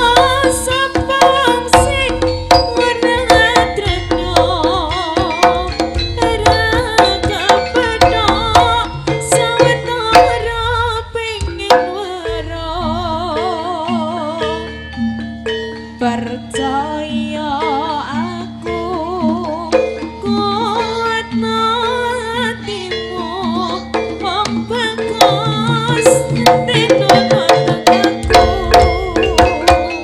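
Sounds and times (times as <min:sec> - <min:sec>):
hand drums beating: 0:00.0 - 0:30.0
wavering melody: 0:00.0 - 0:30.0.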